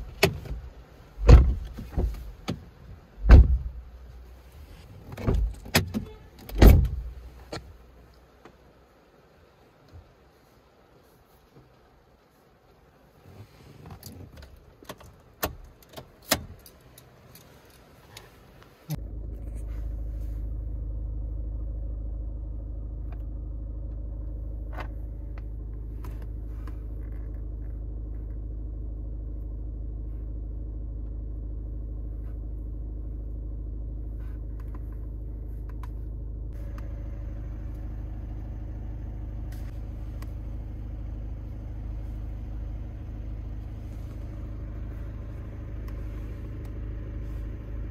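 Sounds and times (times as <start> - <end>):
car engine starting and idling: 0.0 - 47.9.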